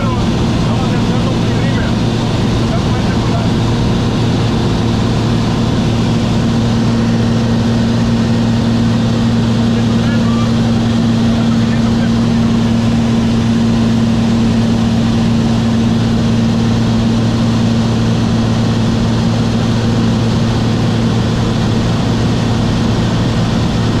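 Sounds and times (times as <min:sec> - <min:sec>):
propeller plane engine drone: 0:00.0 - 0:24.0
rushing airflow: 0:00.0 - 0:24.0.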